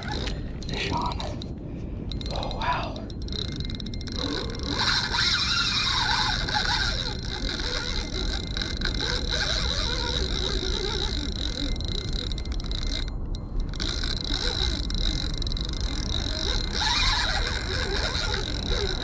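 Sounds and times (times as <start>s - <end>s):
fishing reel being cranked: 0.0s - 1.5s, 2.1s - 19.0s
rod handling rumble: 0.0s - 19.0s.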